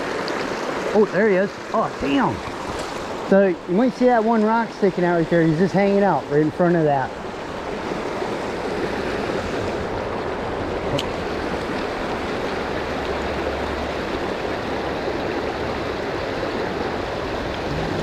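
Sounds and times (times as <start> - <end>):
river water rushing over rocks: 0.0 - 18.0.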